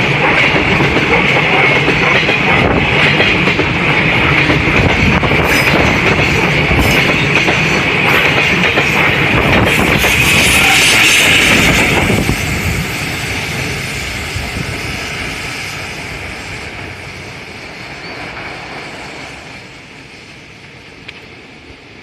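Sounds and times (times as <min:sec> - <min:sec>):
freight train passing: 0:00.0 - 0:22.0.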